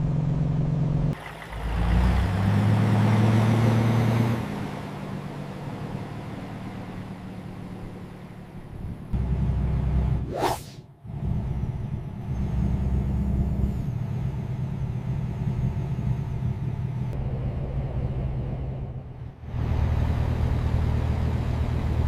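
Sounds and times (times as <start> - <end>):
truck engine running: 0.0 - 10.2, 11.0 - 22.0
road noise: 0.0 - 22.0.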